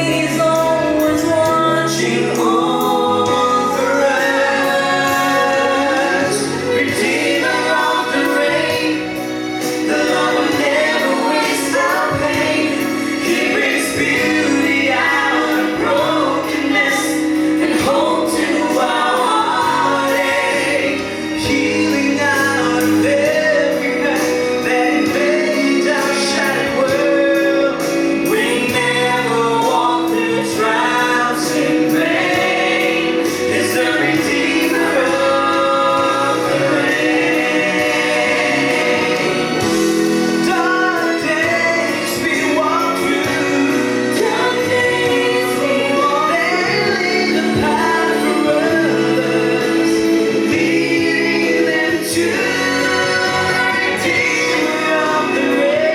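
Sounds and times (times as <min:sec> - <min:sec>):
group singing gospel in harmony: 0:00.0 - 0:55.9
instrumental backing: 0:00.0 - 0:55.9.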